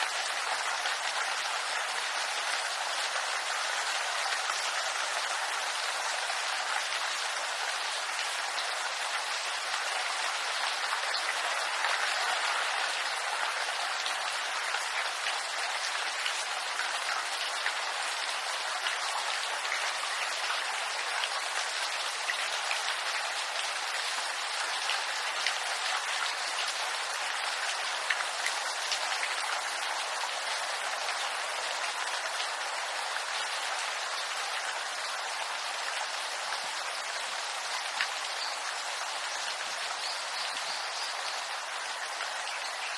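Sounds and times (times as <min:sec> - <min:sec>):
rain pattering on bamboo: 0:00.0 - 0:42.9.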